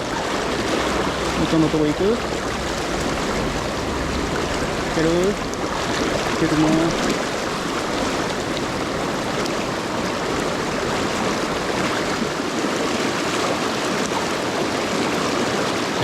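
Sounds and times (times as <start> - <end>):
river water rushing over rapids: 0.0 - 16.0.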